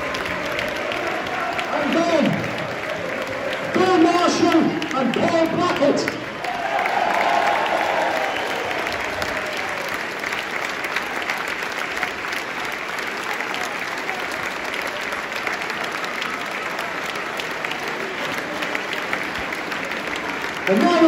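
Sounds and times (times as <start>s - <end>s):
crowd applauding: 0.0s - 21.0s.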